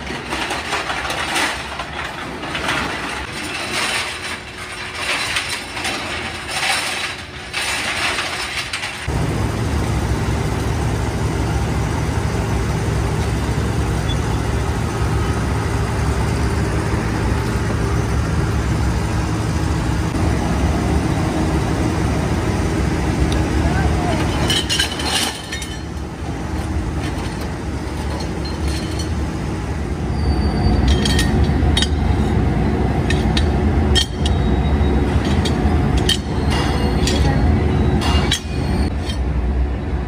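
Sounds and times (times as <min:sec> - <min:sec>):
low machinery hum: 0:00.0 - 0:40.0.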